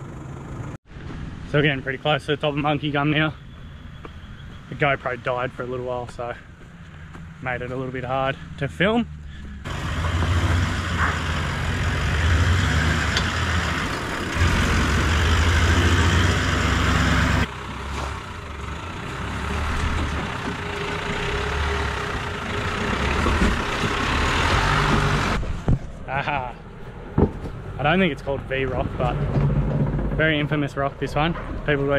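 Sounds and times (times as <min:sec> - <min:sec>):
vehicle engines running at low revs: 0:00.0 - 0:31.9.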